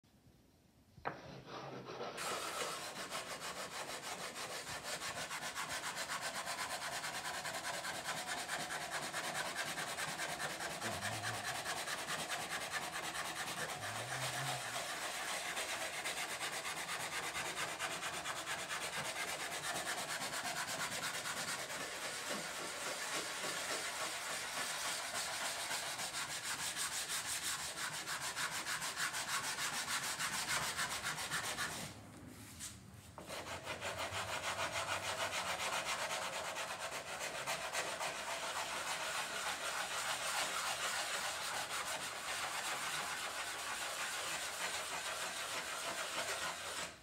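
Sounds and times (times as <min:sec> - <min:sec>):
sandpaper rasping on wood: 0:01.3 - 0:32.0, 0:32.6 - 0:47.0.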